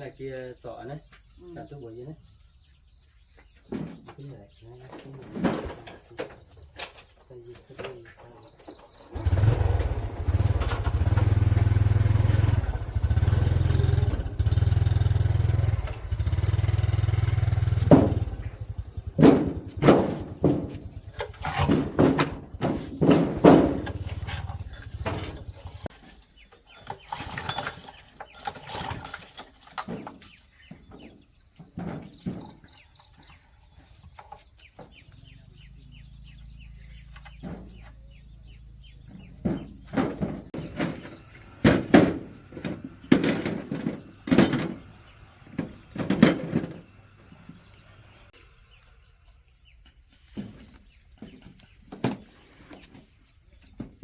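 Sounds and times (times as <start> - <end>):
knocks and clanks: 3.7 - 33.4, 36.7 - 47.8, 50.4 - 53.1.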